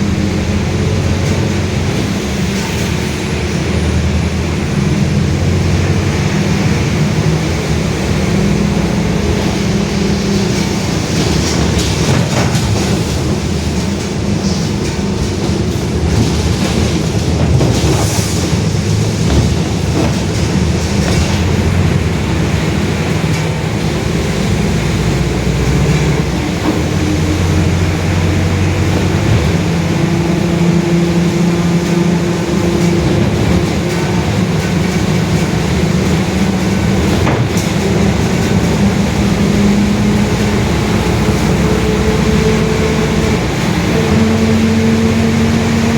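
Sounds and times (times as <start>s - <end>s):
bus differential growling: 0.0s - 45.9s
bus drivetrain noise: 0.0s - 45.9s.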